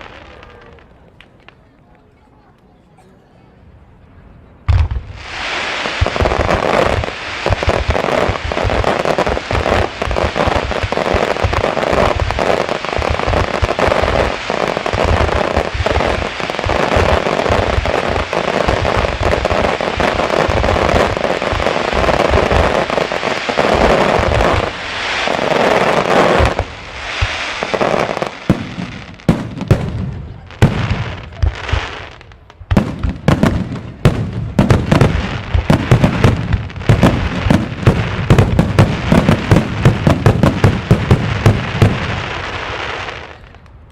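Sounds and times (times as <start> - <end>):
fireworks bangs and crackle: 0.0 - 1.7, 4.7 - 43.9.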